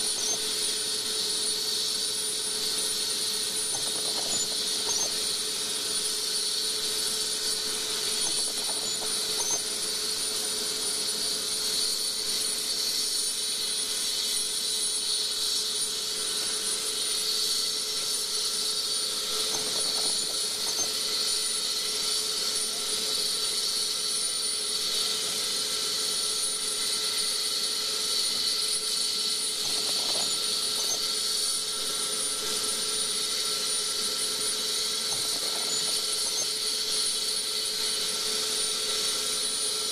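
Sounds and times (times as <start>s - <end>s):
helicopter turbine engines whine: 0.0s - 39.9s.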